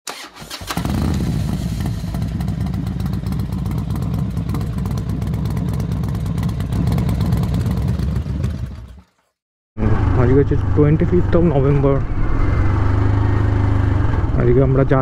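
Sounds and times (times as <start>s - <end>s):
motorcycle engine running: 0.6s - 9.1s, 9.8s - 15.0s.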